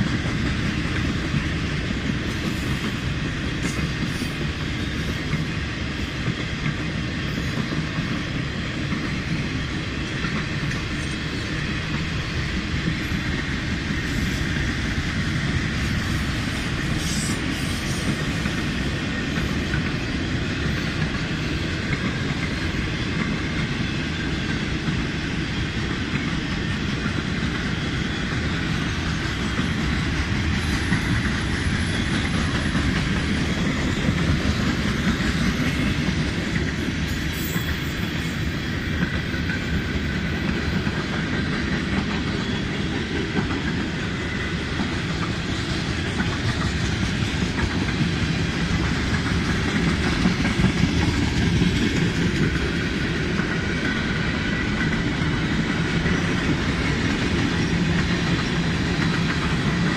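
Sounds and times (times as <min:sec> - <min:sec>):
train wheels on track: 0:00.0 - 0:59.9.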